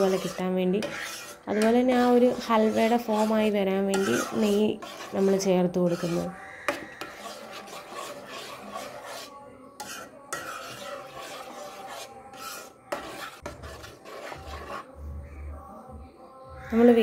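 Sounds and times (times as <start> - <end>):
spoon scraping a saucepan: 0.0 - 15.0.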